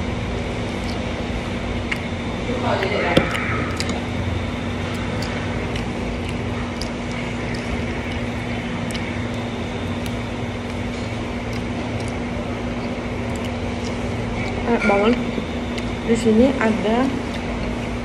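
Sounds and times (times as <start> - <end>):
low machine hum: 0.0 - 18.0
chewing and biting: 0.6 - 16.3, 17.1 - 18.0.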